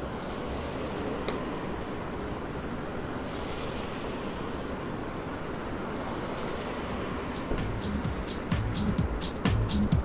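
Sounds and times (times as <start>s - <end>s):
steady rushing noise with low rumble: 0.0s - 10.0s.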